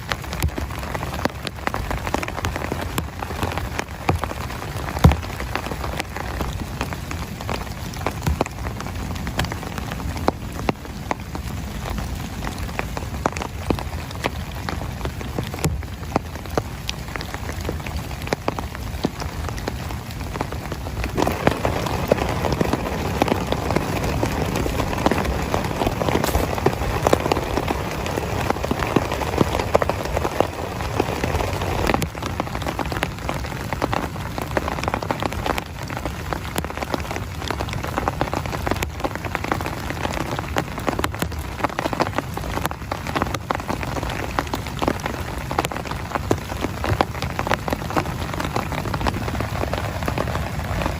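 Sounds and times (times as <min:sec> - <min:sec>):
heavy rain on a tent: 0:00.0 - 0:50.9
raindrop hits: 0:00.0 - 0:50.9.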